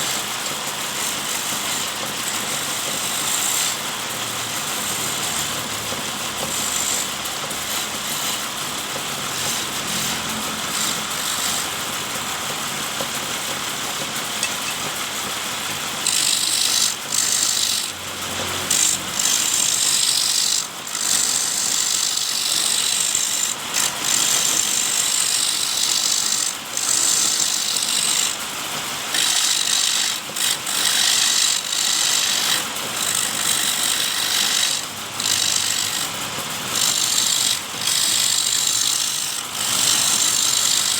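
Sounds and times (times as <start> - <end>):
cutting tool scraping wood: 0.0 - 12.0, 16.0 - 28.4, 29.1 - 40.9
wood lathe motor whirring: 0.0 - 40.9.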